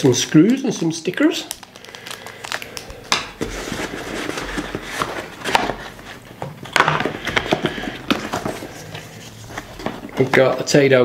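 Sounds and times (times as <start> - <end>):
plastic and cardboard rustling: 0.0 - 11.0.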